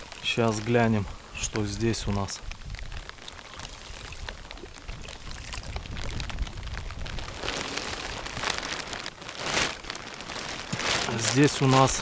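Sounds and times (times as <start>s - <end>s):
rain falling: 0.0s - 12.0s
wind rumbling on microphone: 0.0s - 12.0s.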